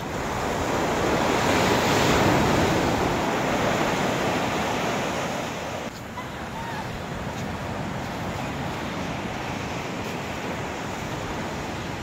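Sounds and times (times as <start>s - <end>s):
sea waves breaking on beach: 0.0s - 12.0s.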